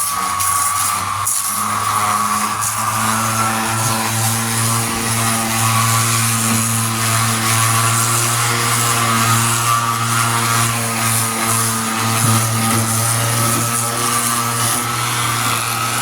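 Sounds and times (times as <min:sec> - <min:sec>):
power sander running: 0:00.0 - 0:16.0.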